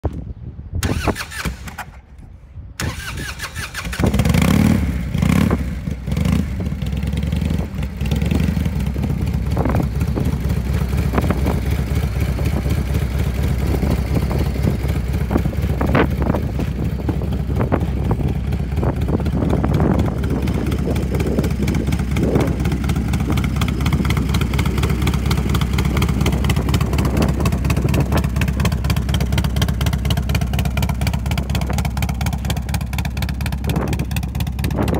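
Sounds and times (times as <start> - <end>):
motorcycle engine starting and idling: 0.8 - 34.9.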